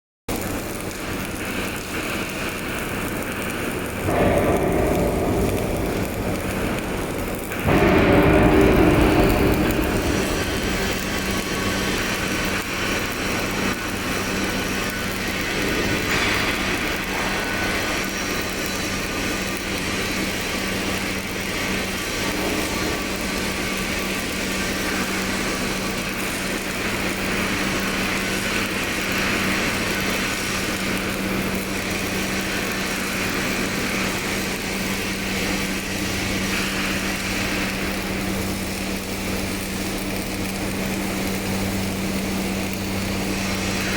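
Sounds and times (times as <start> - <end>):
welding hiss: 0.3 - 43.9
welding machine humming: 0.3 - 43.9.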